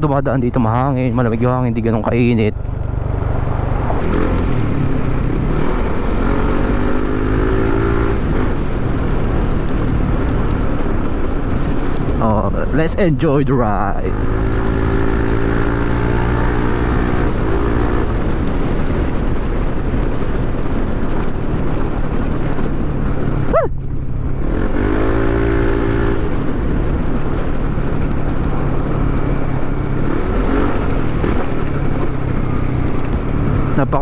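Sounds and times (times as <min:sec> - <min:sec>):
wind rumble on microphone: 0:00.0 - 0:34.0
scooter engine cruising: 0:00.4 - 0:34.0.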